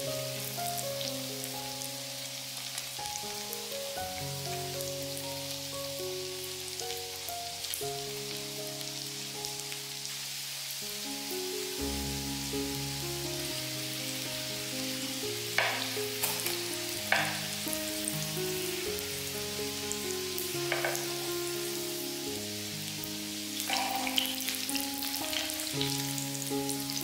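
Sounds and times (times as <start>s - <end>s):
patties sizzling in oil: 0.0s - 27.0s.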